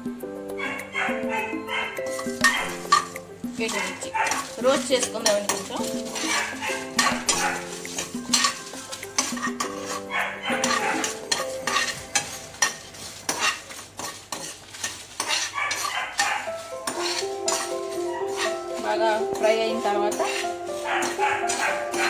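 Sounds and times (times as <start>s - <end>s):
background music with held notes: 0.0s - 13.8s, 15.8s - 22.0s
spoon scraping a metal pan: 0.6s - 22.0s
spoon clinking on pan: 2.0s - 18.6s, 19.4s - 22.0s
light sizzle: 2.0s - 22.0s.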